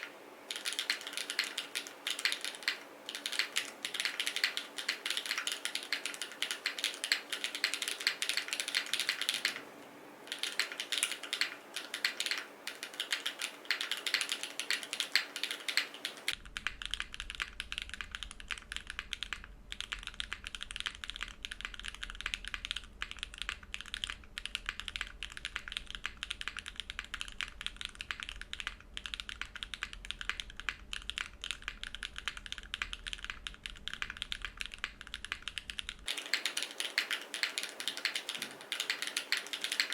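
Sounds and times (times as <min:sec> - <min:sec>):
mechanical keyboard typing: 0:00.0 - 0:09.6, 0:10.3 - 0:39.9.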